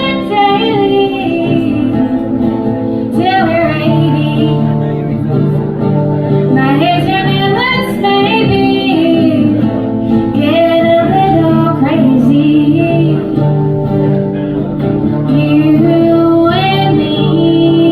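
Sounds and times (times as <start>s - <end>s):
woman singing: 0.0s - 4.9s, 6.5s - 13.7s, 15.2s - 17.9s
acoustic guitar accompaniment: 0.0s - 17.9s.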